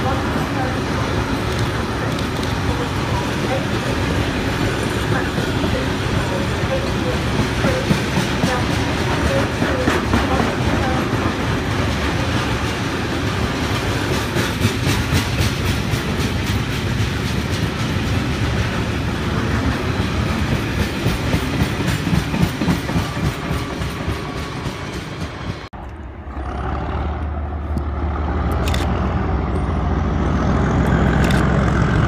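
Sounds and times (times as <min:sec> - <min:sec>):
train wheels clattering over rails: 0:00.0 - 0:25.7.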